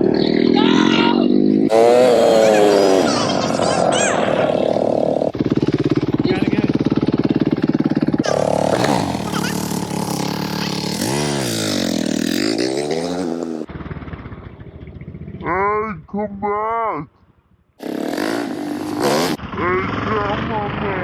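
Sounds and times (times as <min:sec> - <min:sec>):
dirt bike engine revving: 0:00.0 - 0:15.0, 0:17.8 - 0:21.0.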